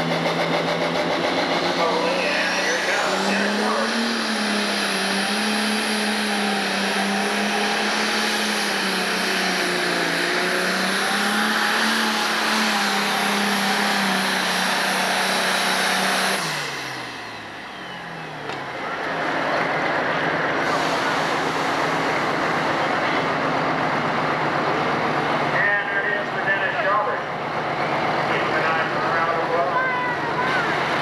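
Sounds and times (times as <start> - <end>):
tractor diesel engine droning: 0.0 - 31.0.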